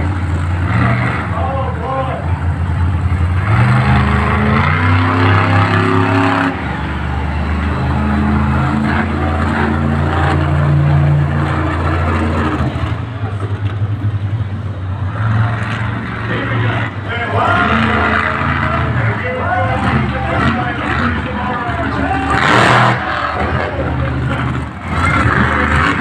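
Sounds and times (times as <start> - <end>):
monster truck engine revving: 0.0 - 26.0.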